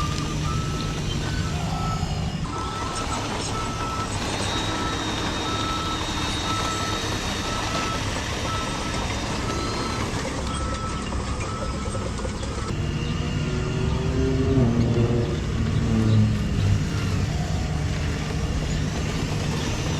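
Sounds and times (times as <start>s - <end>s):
engine-like rumble: 0.0s - 19.9s
reversing alarm beeping: 0.0s - 19.9s.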